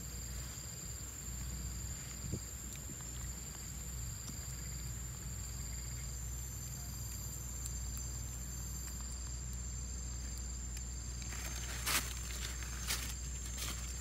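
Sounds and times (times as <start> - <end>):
high-pitched insect buzz: 0.0 - 14.0
insect chirping trill: 0.0 - 14.0.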